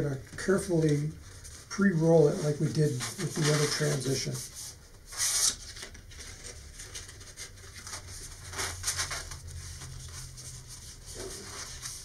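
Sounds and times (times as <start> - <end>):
paper rustling and rubbing: 0.4 - 12.0.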